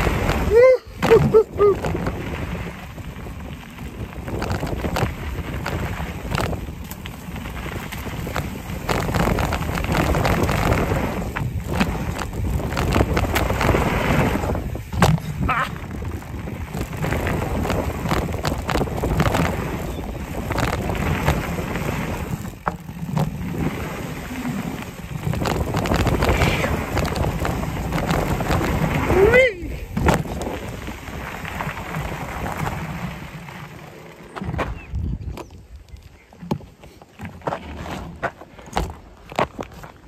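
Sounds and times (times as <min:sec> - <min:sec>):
wind rushing over microphone: 0:00.0 - 0:36.0
bike clicks and rattles: 0:00.0 - 0:40.0
tyres rolling over dirt and stones: 0:00.0 - 0:40.0.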